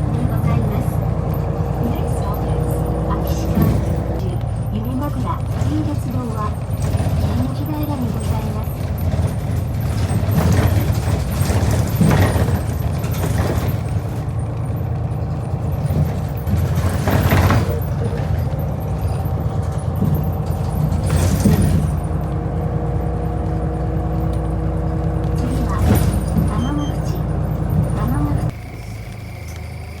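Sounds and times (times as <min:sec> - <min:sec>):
vehicle rumbling: 0:00.0 - 0:30.0.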